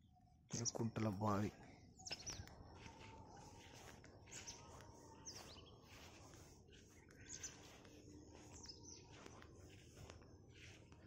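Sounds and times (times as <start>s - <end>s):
faint bird chirps: 0.0s - 11.0s
outdoor background noise: 0.0s - 11.0s.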